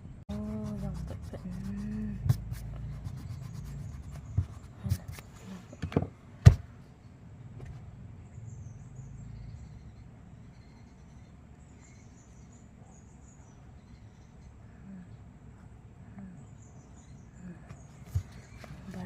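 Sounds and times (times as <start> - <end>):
faint low background noise: 0.0 - 19.0.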